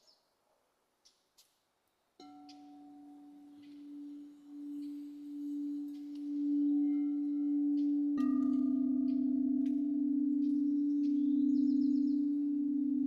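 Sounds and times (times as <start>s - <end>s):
crystal singing bowl ringing: 2.2s - 13.0s.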